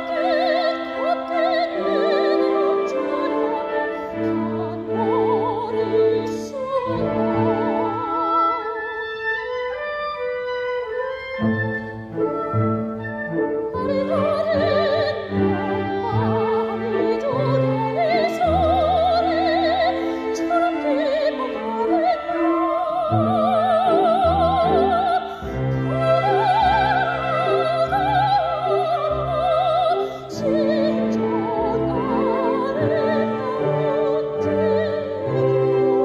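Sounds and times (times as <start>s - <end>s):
operatic soprano singing: 0.0s - 10.3s, 13.0s - 36.0s
symphony orchestra with strings: 0.0s - 36.0s.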